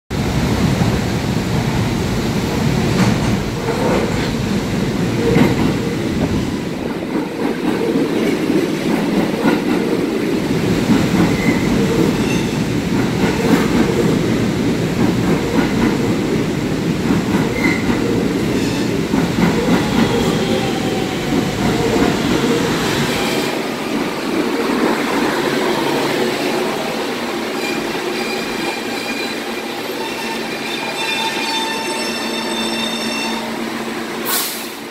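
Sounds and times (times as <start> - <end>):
subway train rumbling: 0.1 - 34.9.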